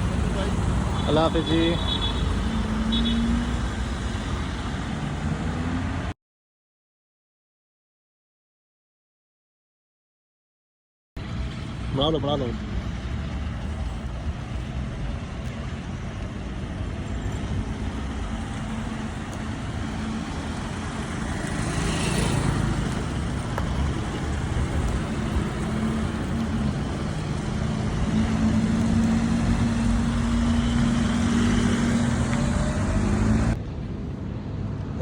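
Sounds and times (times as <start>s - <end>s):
car engines running: 0.0s - 6.1s, 11.2s - 35.0s.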